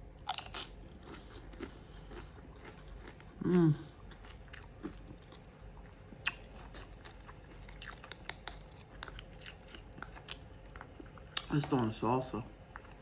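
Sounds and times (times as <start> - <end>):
person chewing food: 0.2 - 11.8, 12.6 - 13.0.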